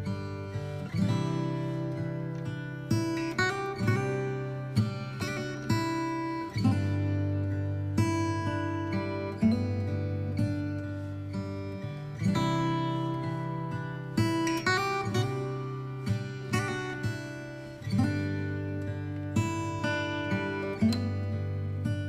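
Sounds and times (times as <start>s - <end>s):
acoustic guitar plucked chords: 0.0s - 22.0s.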